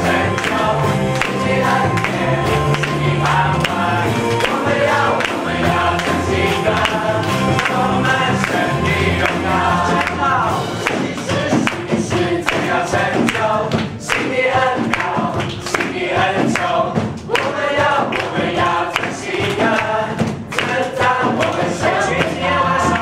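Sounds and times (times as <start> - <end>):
congregation clapping: 0.0 - 23.0
group singing praise song: 0.0 - 23.0
music accompaniment: 0.0 - 23.0.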